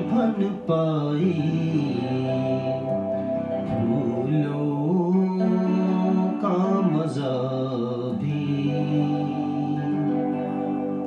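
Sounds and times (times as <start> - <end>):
electric guitar playing: 0.0 - 11.0.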